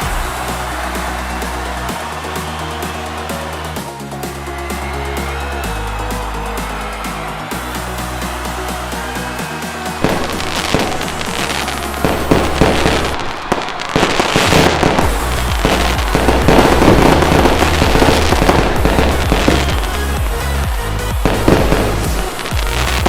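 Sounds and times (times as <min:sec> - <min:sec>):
fireworks bursting and crackling: 0:00.0 - 0:03.9, 0:06.9 - 0:23.0
background music with bass: 0:00.0 - 0:23.0.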